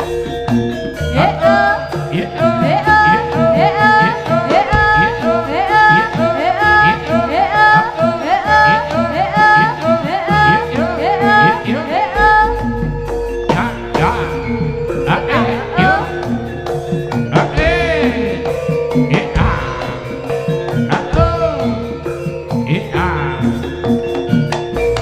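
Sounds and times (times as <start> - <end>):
drums: 0.0 - 25.0
gamelan-style ensemble music: 0.0 - 25.0
ornamented lead melody: 0.0 - 25.0.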